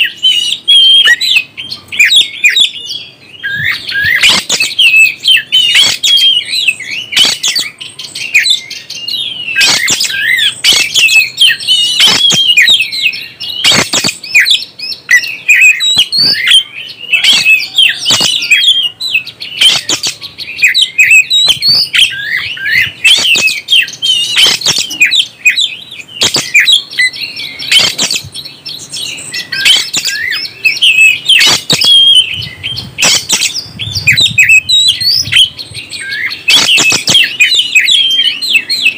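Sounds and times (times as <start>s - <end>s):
bird singing whistled chirps: 0.0s - 38.9s.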